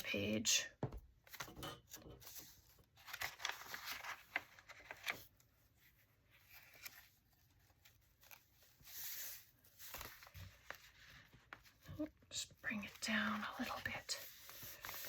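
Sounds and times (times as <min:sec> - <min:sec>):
paper clicks and rustles: 0:01.2 - 0:05.5, 0:06.4 - 0:12.1, 0:12.7 - 0:15.0.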